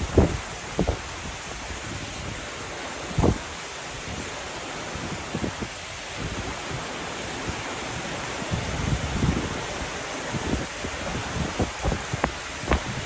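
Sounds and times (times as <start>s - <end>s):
heavy rain: 0.0s - 13.0s
wind buffeting microphone: 0.0s - 13.0s.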